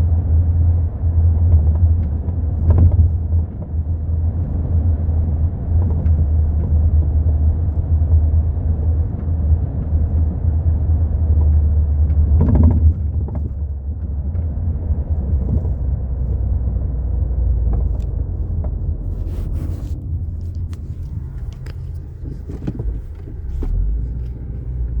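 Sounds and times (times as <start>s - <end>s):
car low rumble while driving: 0.0s - 25.0s.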